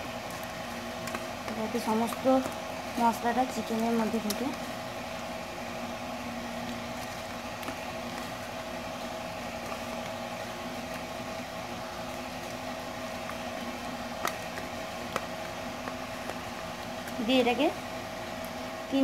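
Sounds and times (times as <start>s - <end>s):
two-tone mechanical hum: 0.0s - 19.0s.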